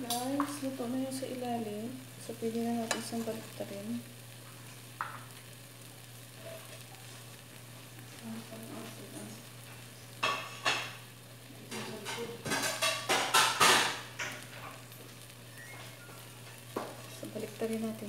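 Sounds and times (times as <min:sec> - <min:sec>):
pancake batter sizzling: 0:00.0 - 0:18.0.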